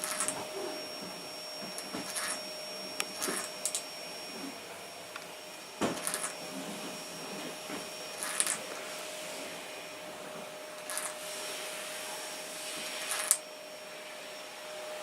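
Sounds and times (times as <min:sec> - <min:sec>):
vacuum cleaner humming: 0:00.0 - 0:15.0.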